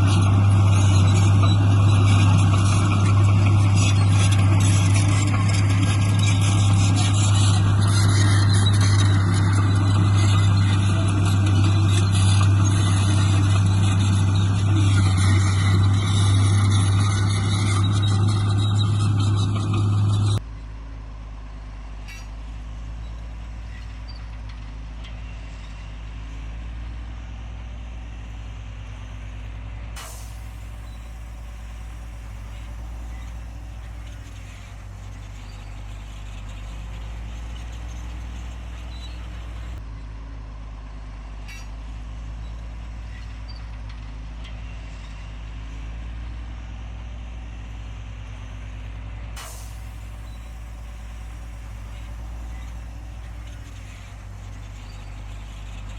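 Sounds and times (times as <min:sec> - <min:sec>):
diesel machinery engine droning: 0:00.0 - 0:55.9.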